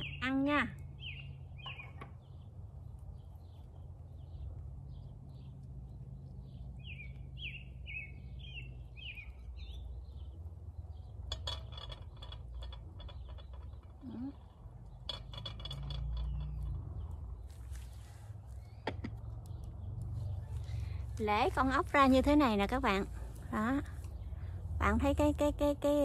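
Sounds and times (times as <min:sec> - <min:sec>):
songbird singing: 0:00.0 - 0:26.0
steady low rumble: 0:00.0 - 0:26.0.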